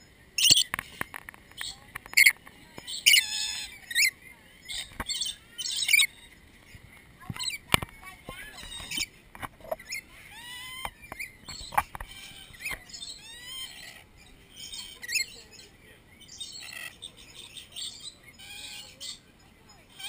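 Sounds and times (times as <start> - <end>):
lorikeets chattering: 0.0 - 20.0.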